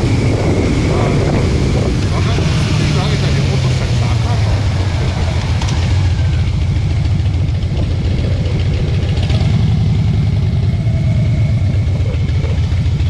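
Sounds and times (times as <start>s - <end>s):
motorcycle engine idling low: 0.0s - 13.0s.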